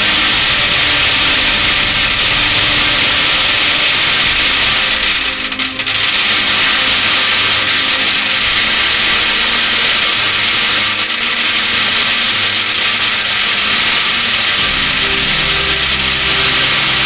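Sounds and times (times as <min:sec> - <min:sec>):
metal pellets pouring onto tin can: 0:00.0 - 0:17.0.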